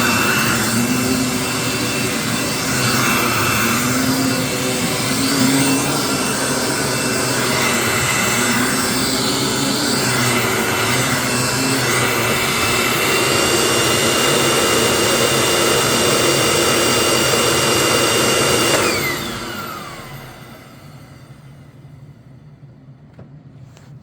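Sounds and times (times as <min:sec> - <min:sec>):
vacuum motor spinning down: 0:00.0 - 0:22.0
upright vacuum cleaner running: 0:00.0 - 0:22.2.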